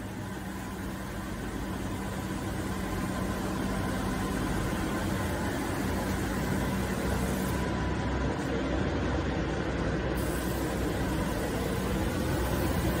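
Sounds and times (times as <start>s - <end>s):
factory machinery drone: 0.0s - 13.0s.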